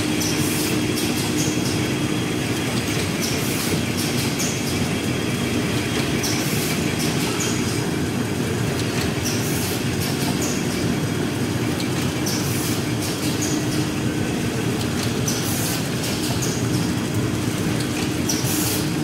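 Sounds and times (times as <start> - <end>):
packing machine clatter: 0.0 - 19.0.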